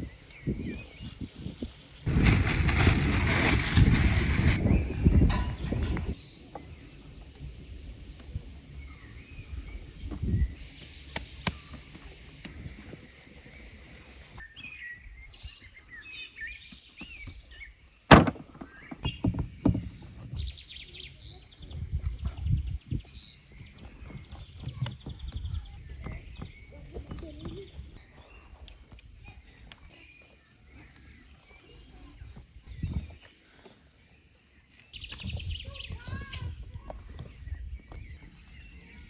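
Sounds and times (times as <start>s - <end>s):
birds chirping and twittering: 0.0s - 39.0s.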